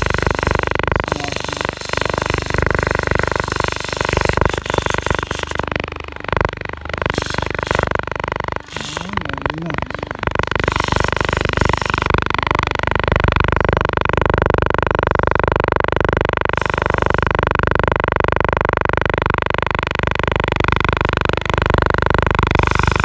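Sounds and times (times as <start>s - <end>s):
gimbal motors buzzing: 0.0s - 23.0s.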